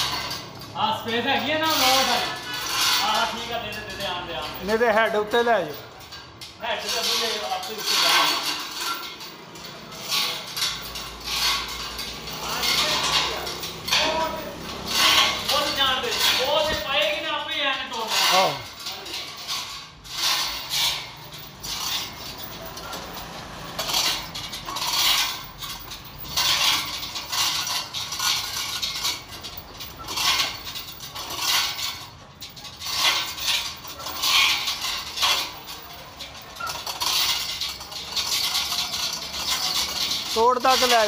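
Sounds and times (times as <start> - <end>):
hoist hand chain clinking: 0.0 - 41.0.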